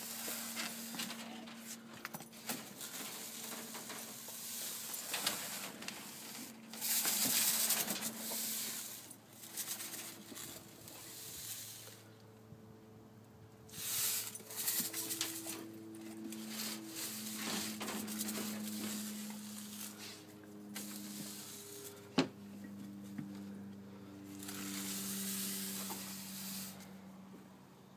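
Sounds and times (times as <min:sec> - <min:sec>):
push broom sweeping paving: 0:00.0 - 0:12.2, 0:13.7 - 0:22.2, 0:24.0 - 0:27.0.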